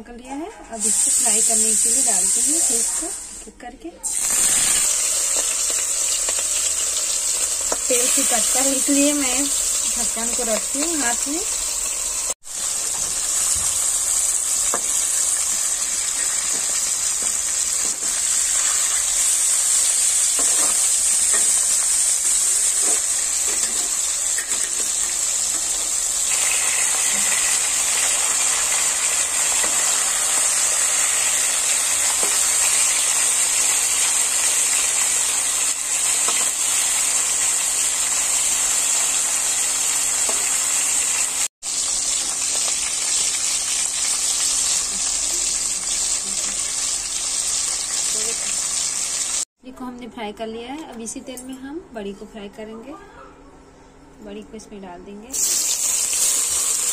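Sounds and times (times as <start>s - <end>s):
fish frying in hot oil: 0.8s - 2.8s, 4.0s - 49.5s, 55.3s - 56.9s.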